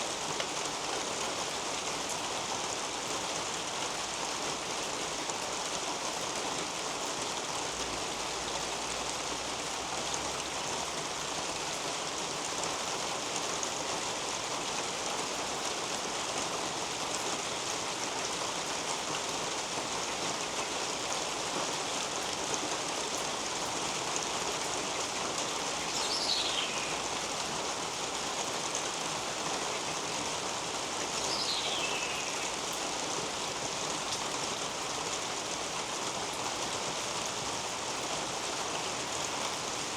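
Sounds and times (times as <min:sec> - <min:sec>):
rain falling on leaves and roof: 0:00.0 - 0:39.9.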